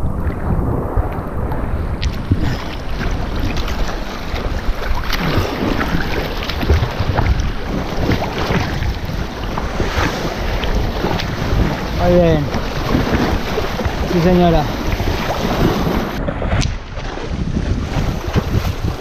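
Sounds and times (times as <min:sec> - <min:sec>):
low rumble: 0:00.0 - 0:18.9
seawater sloshing and splashing: 0:00.0 - 0:19.0
small waves washing over rocks: 0:00.5 - 0:19.0.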